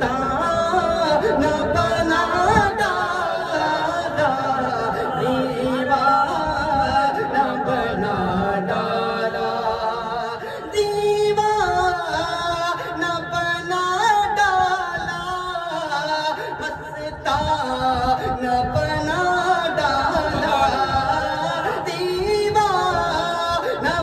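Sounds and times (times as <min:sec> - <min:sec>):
man singing devotional song: 0:00.0 - 0:24.0.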